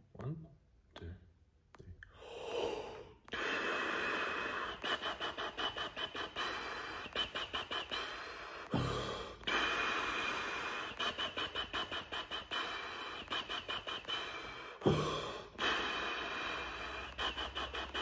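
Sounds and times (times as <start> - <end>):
tongued air pulses: 2.0 - 18.0
breath inhale: 2.1 - 18.0.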